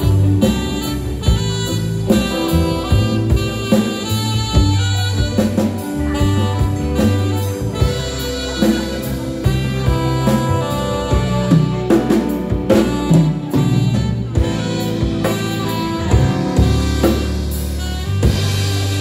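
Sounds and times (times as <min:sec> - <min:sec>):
congas: 0:00.0 - 0:19.0
drum kit: 0:00.0 - 0:19.0
electric bass: 0:00.0 - 0:19.0
electric guitars: 0:00.0 - 0:19.0
flute melody: 0:00.0 - 0:19.0.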